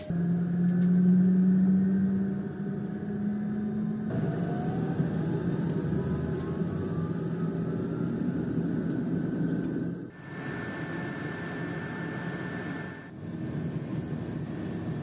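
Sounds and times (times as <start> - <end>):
rising engine whine: 0.0 - 13.7
turboprop engine drone: 0.0 - 15.0.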